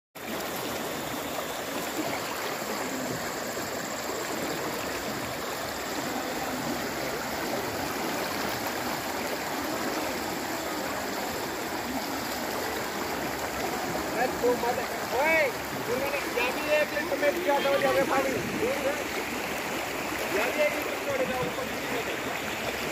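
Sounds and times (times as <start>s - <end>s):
floodwater rushing: 0.2s - 22.9s.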